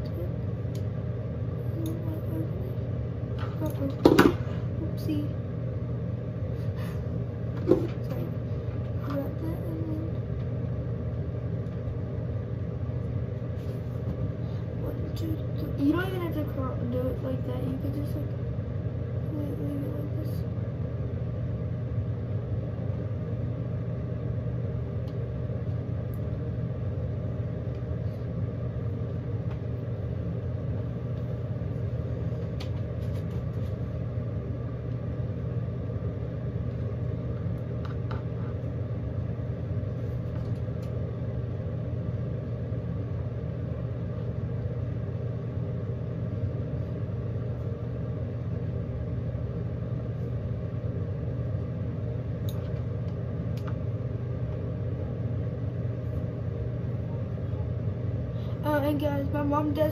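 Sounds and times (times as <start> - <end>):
machinery humming: 0.0 - 59.9.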